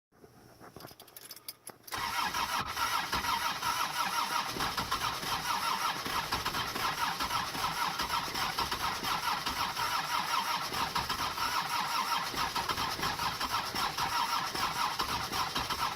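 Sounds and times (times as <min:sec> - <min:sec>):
starter motor cranking diesel engine: 0:01.9 - 0:15.9.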